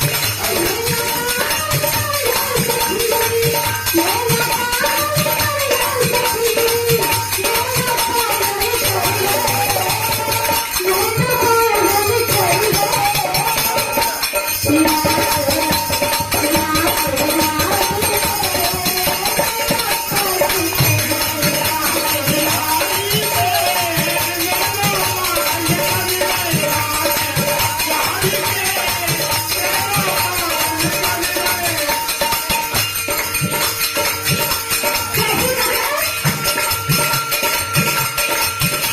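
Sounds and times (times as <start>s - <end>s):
jingling tambourine percussion: 0.0s - 38.9s
steady drum beat: 0.0s - 38.9s
wavering devotional melody: 0.0s - 38.9s.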